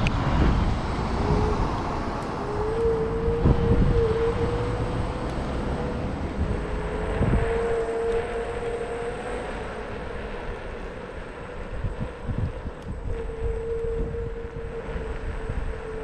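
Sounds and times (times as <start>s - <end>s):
higher whine: 0.0s - 16.0s
road rumble: 0.0s - 16.0s
vehicle motor whine: 0.0s - 16.0s
wind noise: 0.0s - 16.0s.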